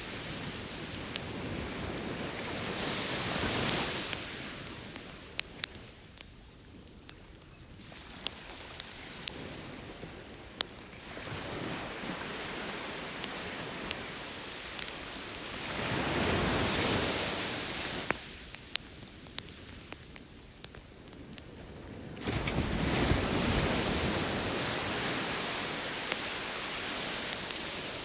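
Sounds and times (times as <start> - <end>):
campfire crackling and popping: 0.0 - 28.0
ocean surf washing on beach: 0.0 - 28.0.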